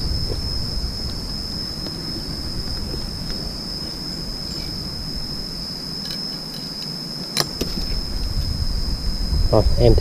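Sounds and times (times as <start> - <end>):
high-pitched insect drone: 0.0 - 10.0
low rumbling noise: 0.0 - 10.0.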